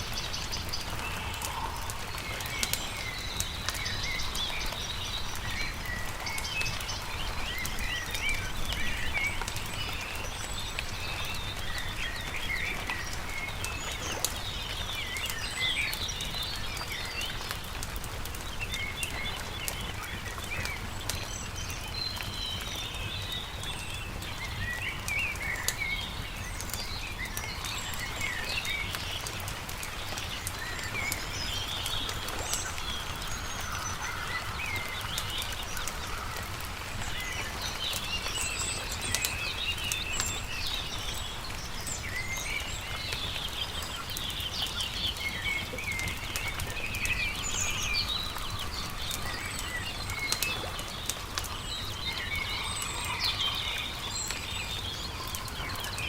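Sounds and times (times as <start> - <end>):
campfire crackling: 0.0 - 56.0
small birds chirping: 0.0 - 56.0.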